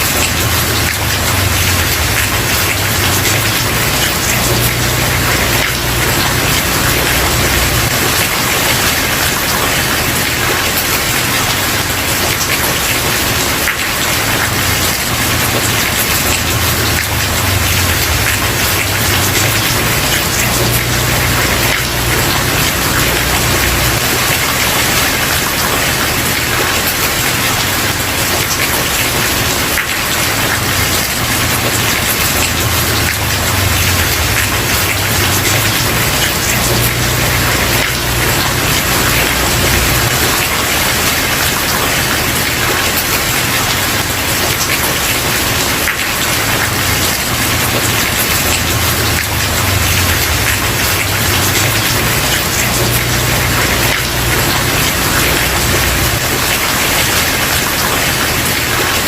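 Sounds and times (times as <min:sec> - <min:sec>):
rain on a wooden porch: 0:00.0 - 0:59.0.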